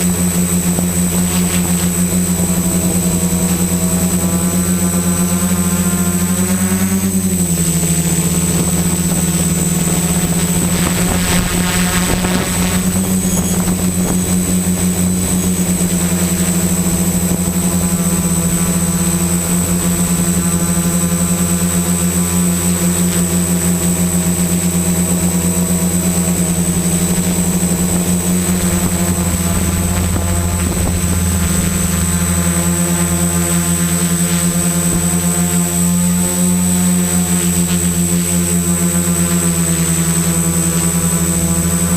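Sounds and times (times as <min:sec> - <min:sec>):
quadcopter drone and whine: 0:00.0 - 0:41.9.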